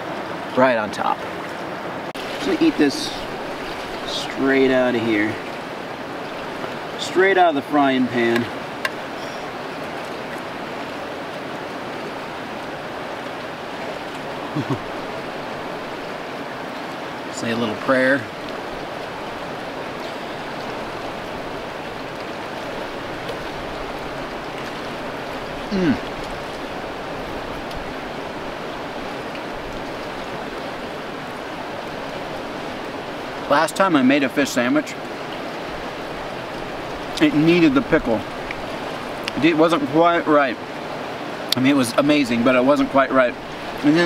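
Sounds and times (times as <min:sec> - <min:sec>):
mountain stream rushing: 0:00.0 - 0:44.0.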